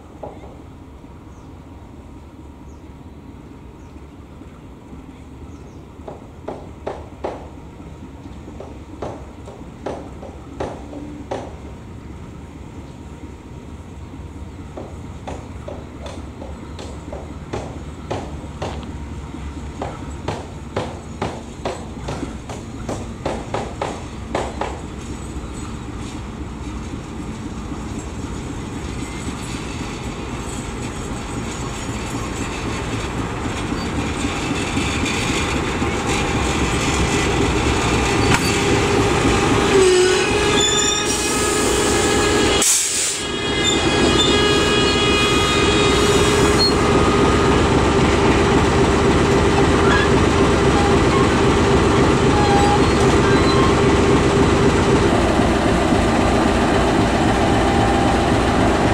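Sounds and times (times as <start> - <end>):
locomotive engine running: 3.2 - 41.0, 43.4 - 58.9
train wheels rolling on rails: 6.0 - 58.9.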